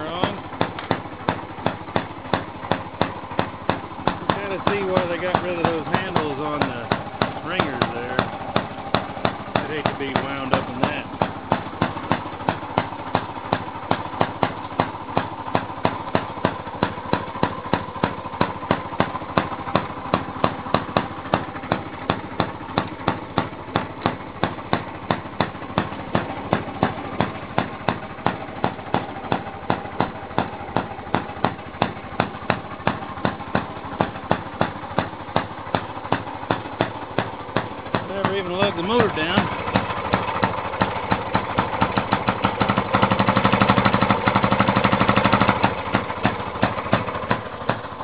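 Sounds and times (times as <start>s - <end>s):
single-cylinder engine running: 0.0s - 48.0s.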